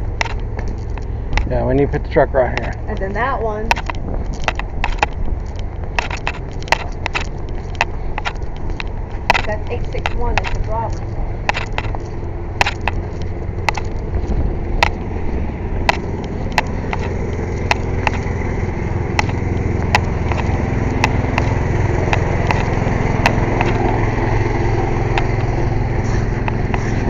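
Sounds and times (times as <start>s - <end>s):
engine rumbling: 0.0s - 27.0s
sharp clicks: 2.4s - 15.1s, 15.8s - 27.0s.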